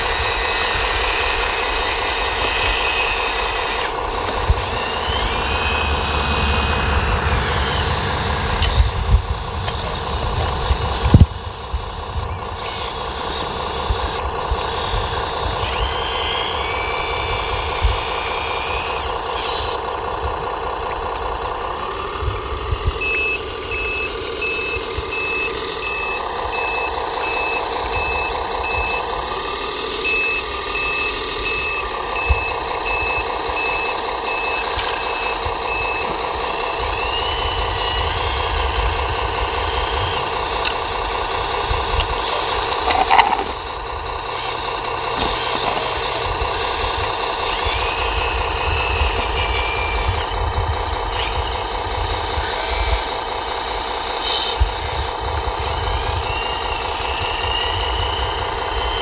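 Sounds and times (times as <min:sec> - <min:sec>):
mechanical whine with engine rumble: 0:00.0 - 0:59.0
reversing alarm beeping: 0:00.0 - 0:59.0.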